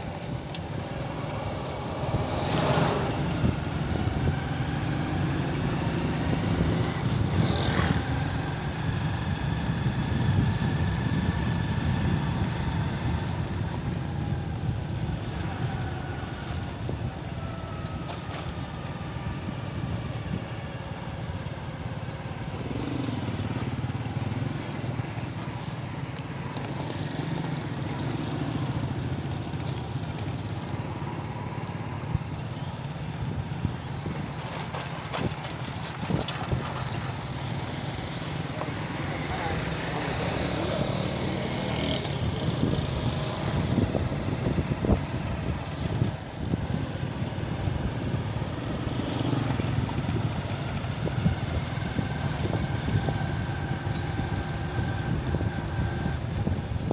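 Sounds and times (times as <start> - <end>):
road and wind noise: 0.0 - 56.9
small motorcycle engine running: 0.0 - 56.9.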